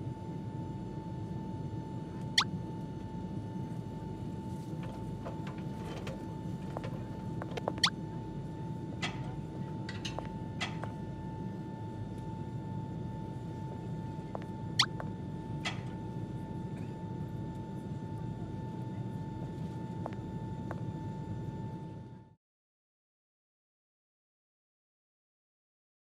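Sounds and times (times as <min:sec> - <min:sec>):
airliner cabin hum: 0:00.0 - 0:22.3.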